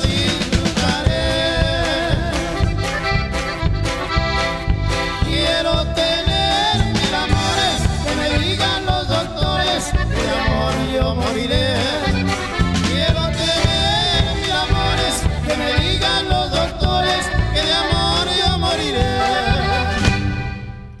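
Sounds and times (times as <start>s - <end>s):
accordion band music: 0.0s - 21.0s.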